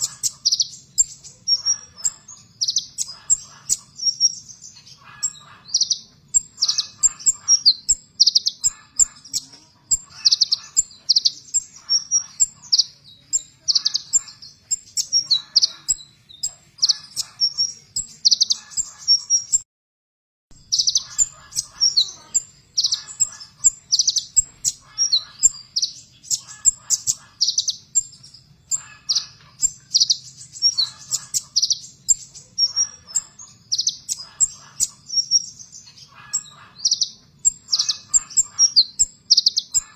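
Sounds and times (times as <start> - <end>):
sunbird singing harsh chattering bursts: 0.0 - 19.6, 20.5 - 39.9.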